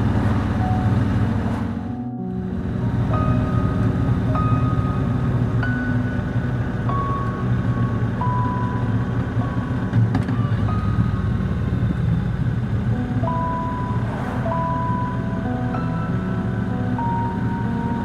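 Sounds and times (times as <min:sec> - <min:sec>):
background music with held notes: 0:00.0 - 0:18.0.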